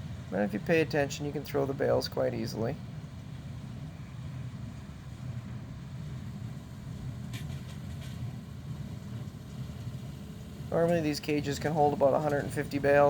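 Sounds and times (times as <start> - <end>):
tractor engine drone: 0.0 - 13.0.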